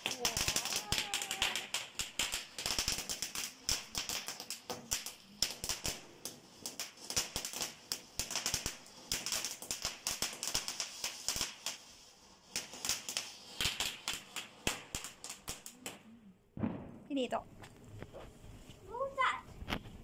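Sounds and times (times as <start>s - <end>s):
firework crackling: 0.0s - 20.0s.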